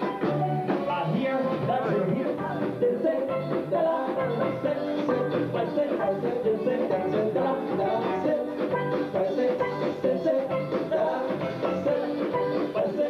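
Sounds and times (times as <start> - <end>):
dance music with steady beat: 0.0 - 13.0.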